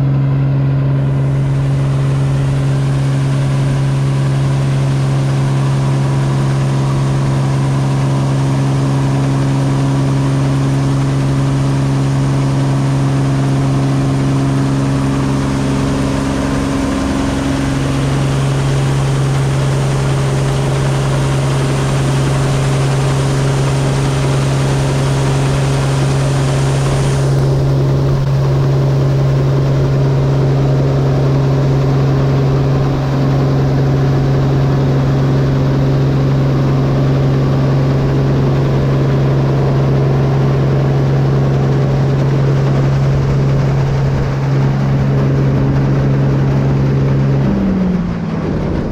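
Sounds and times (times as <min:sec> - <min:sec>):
combine harvester droning: 0:00.0 - 0:48.9.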